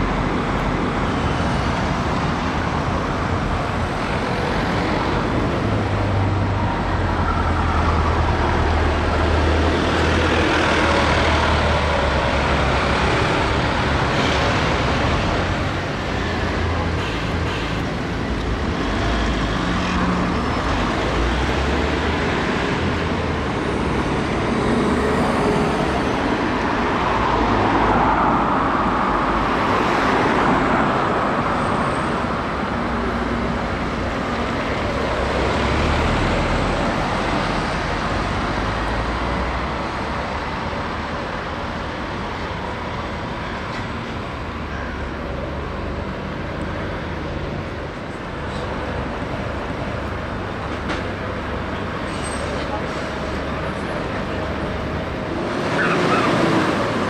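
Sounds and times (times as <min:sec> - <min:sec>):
double-decker bus passing: 0:00.0 - 0:57.0
road traffic: 0:00.0 - 0:57.0.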